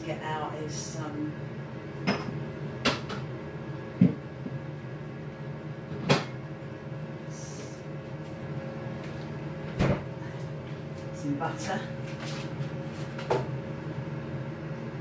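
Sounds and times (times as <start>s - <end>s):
air fryer humming: 0.0s - 15.0s.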